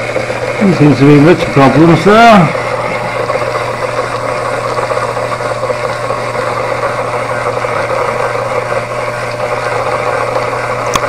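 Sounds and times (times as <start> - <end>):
steam hissing: 0.0 - 10.9
model steam engine running: 0.0 - 11.0.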